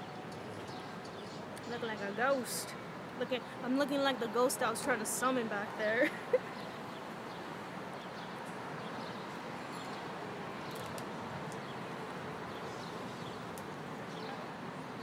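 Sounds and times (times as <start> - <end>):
traffic hum: 0.0 - 15.0.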